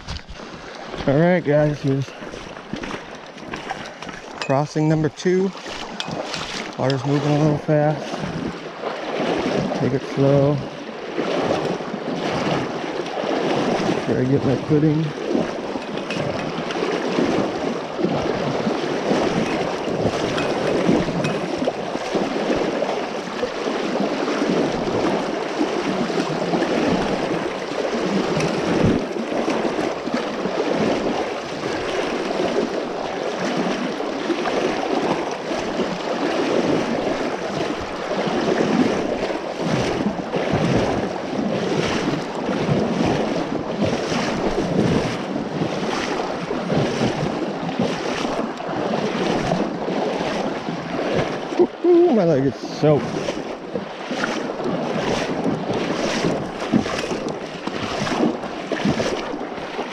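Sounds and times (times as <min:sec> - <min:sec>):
river water rushing: 0:00.0 - 0:59.9
wading splashes: 0:00.0 - 0:59.9.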